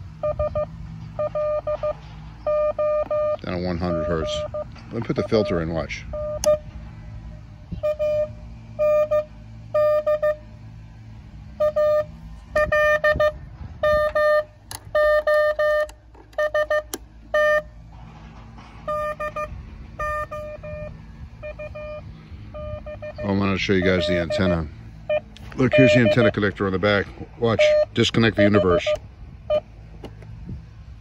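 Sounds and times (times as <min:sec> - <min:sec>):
low steady rumble: 0:00.0 - 0:31.0
morse code tone: 0:00.2 - 0:06.7, 0:07.8 - 0:10.5, 0:11.6 - 0:17.8, 0:18.8 - 0:26.4, 0:27.5 - 0:29.7.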